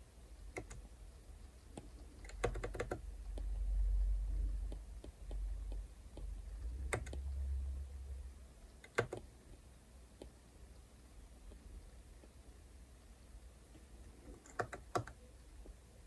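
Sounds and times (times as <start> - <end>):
low steady rumble: 0.0 - 14.4.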